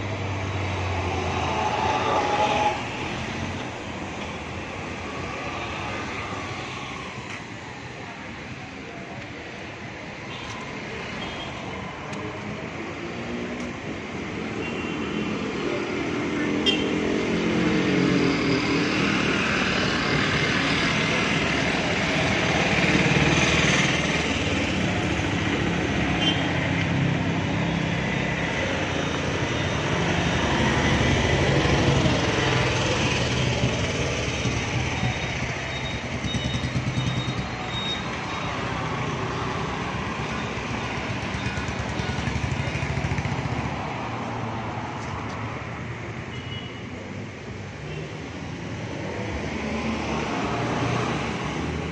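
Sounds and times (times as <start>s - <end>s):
passing vehicle traffic: 0.0s - 51.9s.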